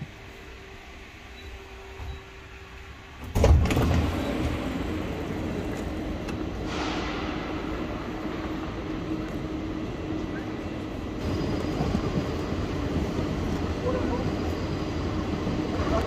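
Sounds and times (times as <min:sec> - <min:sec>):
faint train interior hum: 0:00.0 - 0:16.0
station platform rumble and hum: 0:00.0 - 0:16.0.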